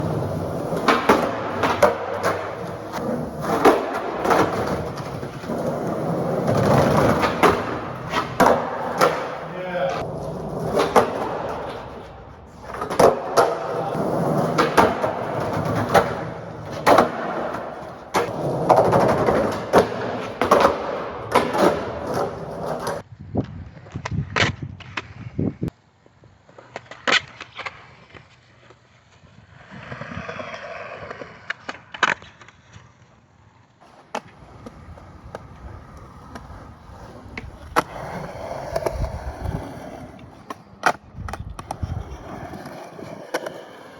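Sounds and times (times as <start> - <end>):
skateboard popping and landing cracks: 0.0 - 25.2, 26.4 - 28.8, 29.6 - 33.2, 33.8 - 43.9
skateboard wheels rolling on concrete: 0.0 - 43.9.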